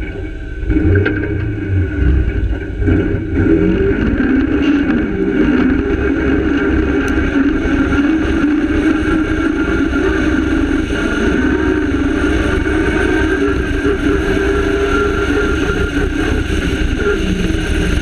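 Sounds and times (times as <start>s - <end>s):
rally car engine revving: 0.0s - 18.0s
tyres rumbling on gravel: 0.0s - 18.0s.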